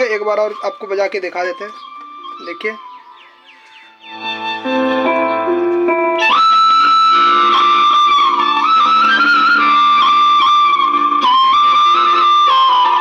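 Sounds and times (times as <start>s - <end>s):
flute-like music from small speaker: 0.0s - 13.0s.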